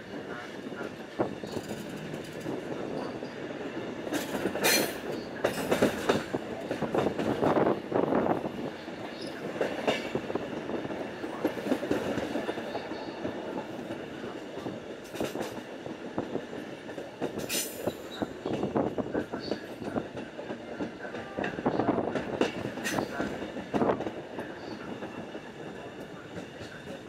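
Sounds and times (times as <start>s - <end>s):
train wheels rattling on rails: 0.0s - 27.0s.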